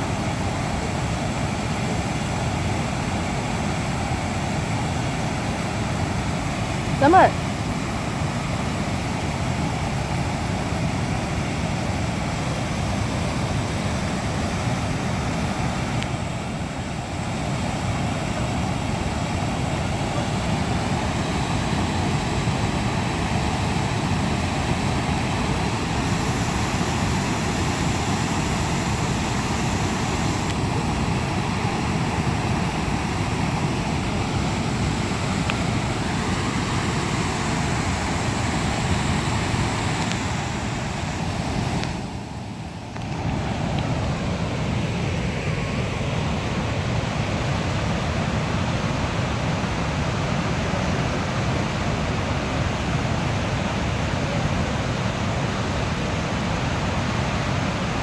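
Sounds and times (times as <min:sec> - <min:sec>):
water rushing through dam: 0:00.0 - 0:58.0.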